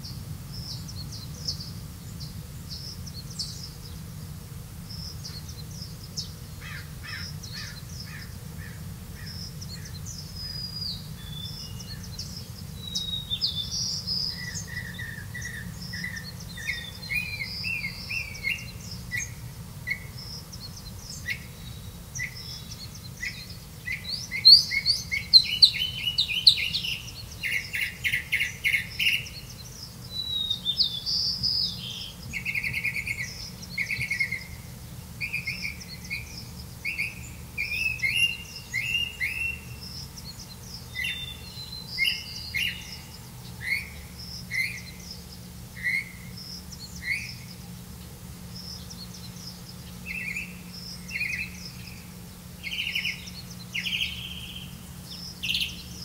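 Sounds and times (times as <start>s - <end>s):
nestlings chirping: 9.2s - 56.0s.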